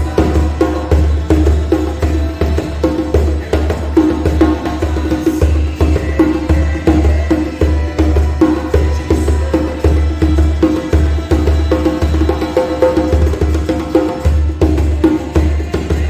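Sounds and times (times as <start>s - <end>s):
djembe drumming by hand: 0.0s - 16.0s.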